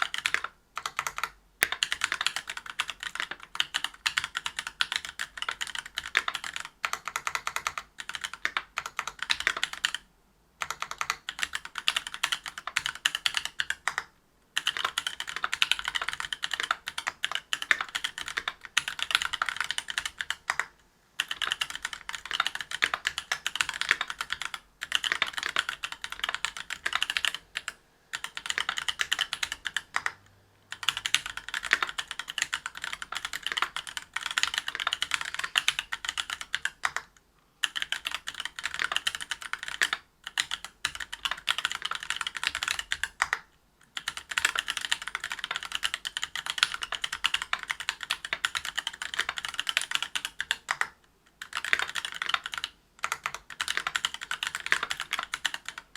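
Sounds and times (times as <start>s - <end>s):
fast mechanical keyboard typing: 0.0s - 10.0s, 10.6s - 55.9s.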